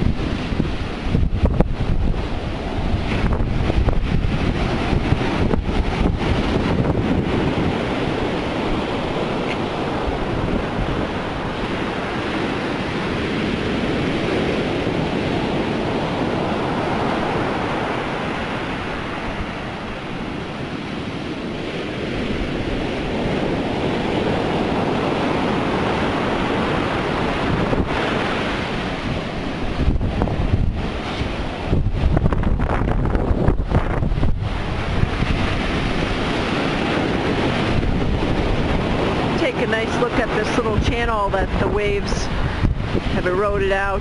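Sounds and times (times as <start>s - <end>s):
surf breaking on beach: 0.0s - 44.0s
wind buffeting microphone: 0.0s - 44.0s.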